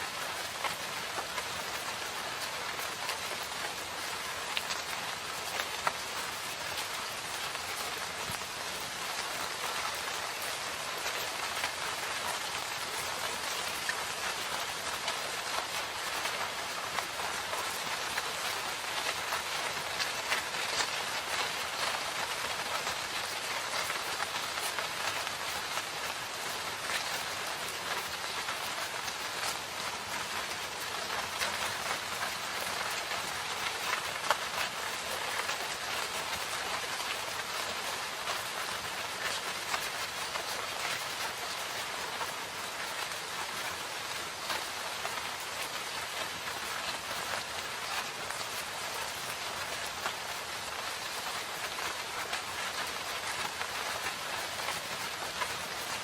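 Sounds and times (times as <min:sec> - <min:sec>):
steady rain falling: 0:00.0 - 0:56.0
raindrop ticks: 0:00.1 - 0:56.0.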